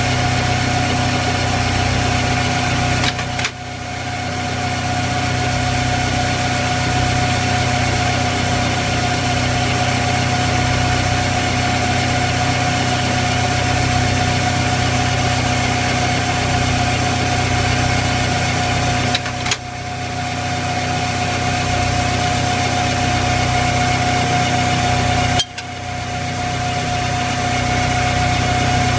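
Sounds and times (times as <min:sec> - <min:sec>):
lathe whine: 0:00.0 - 0:28.9.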